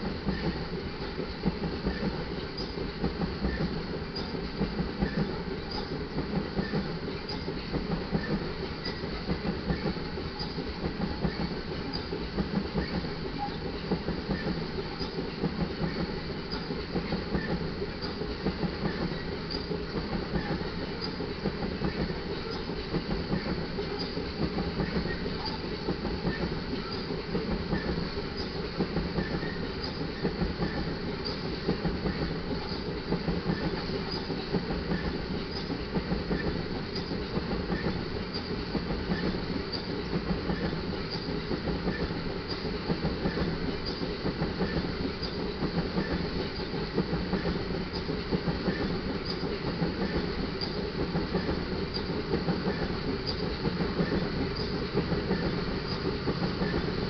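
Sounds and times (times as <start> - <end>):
clickety-clack over rail joints: 0.0 - 57.0
steel wheels rumbling on rail: 0.0 - 57.0.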